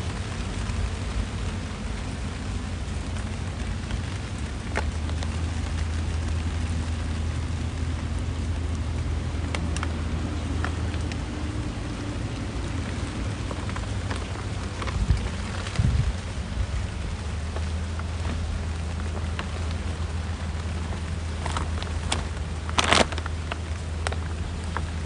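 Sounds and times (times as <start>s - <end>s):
heavy rain falling: 0.0s - 25.0s
low rumble: 0.0s - 25.0s.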